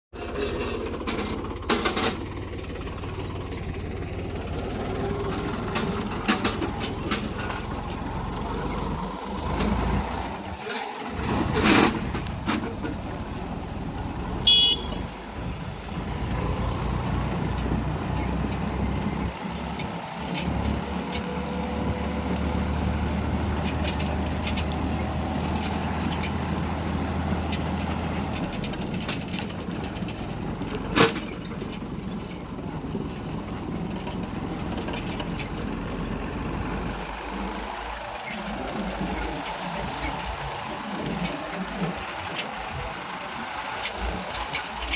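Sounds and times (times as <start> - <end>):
diesel engine running: 0.2 - 44.9.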